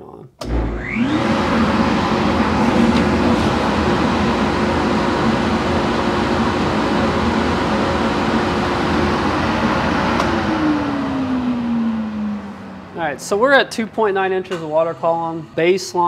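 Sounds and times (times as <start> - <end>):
blower fan rushing hum: 0.4 - 16.0.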